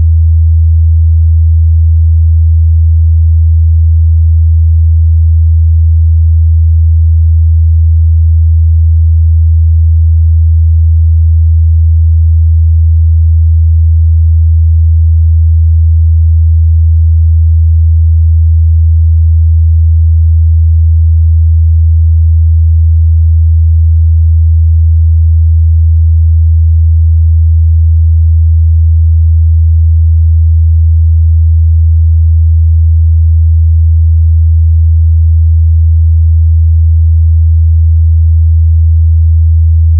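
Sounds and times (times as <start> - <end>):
low sine test tone: 0.0 - 39.9.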